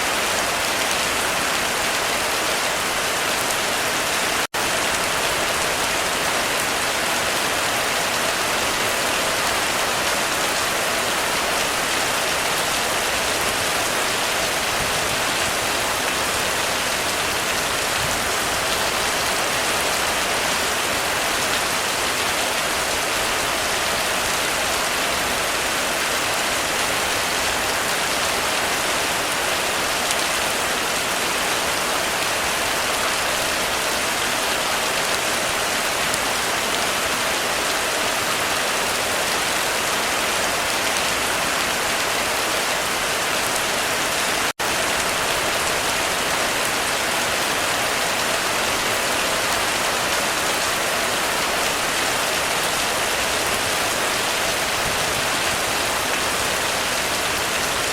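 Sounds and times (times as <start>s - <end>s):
heavy rain on a roof: 0.0s - 57.9s.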